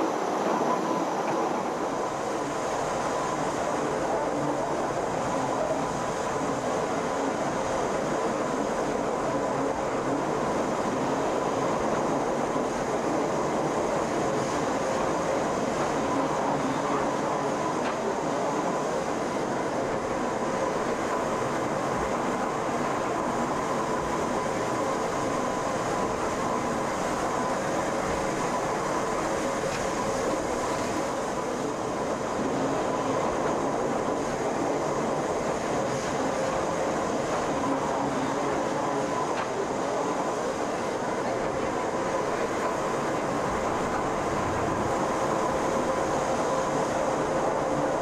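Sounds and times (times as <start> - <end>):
cog railway railcar whine: 0.0 - 48.0
train rumble: 0.0 - 48.0.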